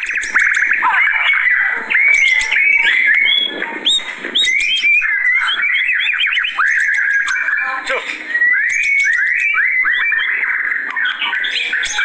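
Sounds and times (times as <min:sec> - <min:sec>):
songbird singing varied whistles: 0:00.0 - 0:12.0.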